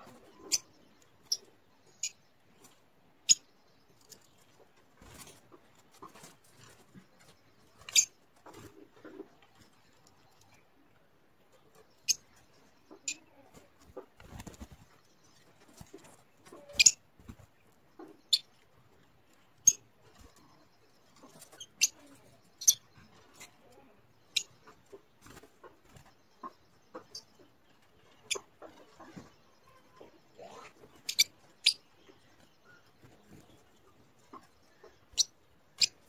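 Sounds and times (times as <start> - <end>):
lovebirds chirping: 0.0 - 36.0.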